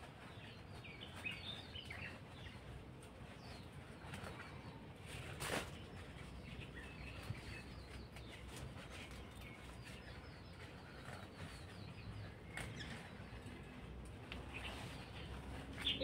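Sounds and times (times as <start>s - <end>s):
faint birdsong: 0.0s - 16.0s
leaves rustling: 0.1s - 16.0s.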